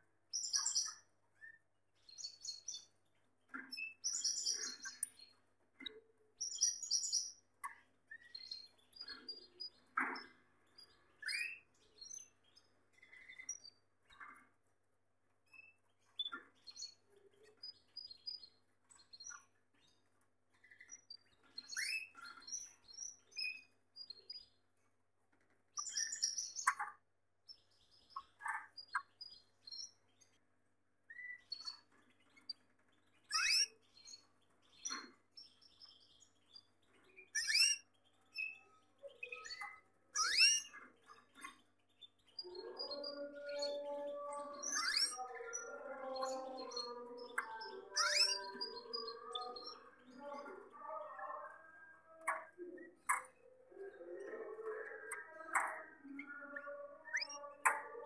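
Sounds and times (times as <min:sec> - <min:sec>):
canaries chirping: 0:00.3 - 0:58.0.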